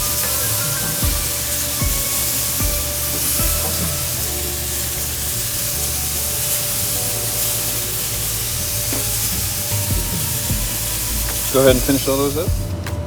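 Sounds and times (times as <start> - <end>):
meat sizzling on a grill: 0.0 - 12.7.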